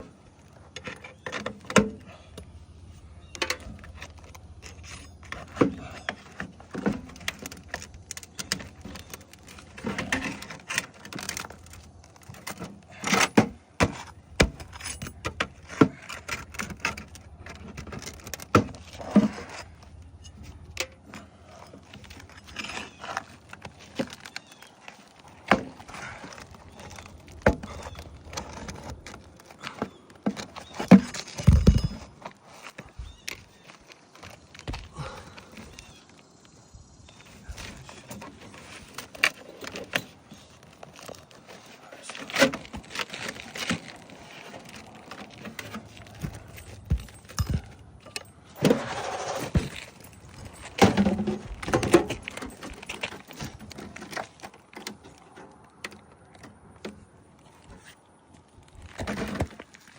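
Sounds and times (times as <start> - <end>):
tools clicking and scraping: 0.0 - 58.0.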